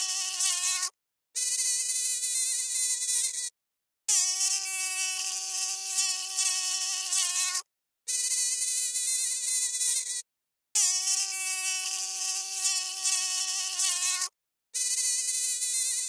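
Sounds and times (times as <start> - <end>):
flying insect wings buzzing: 0.0 - 3.5, 4.1 - 10.2, 11.0 - 16.0.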